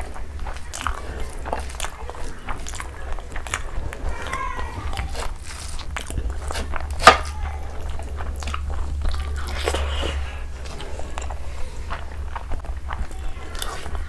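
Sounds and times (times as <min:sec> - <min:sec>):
close chewing with mouth clicks: 0:00.0 - 0:14.0
low steady hum: 0:00.0 - 0:14.0.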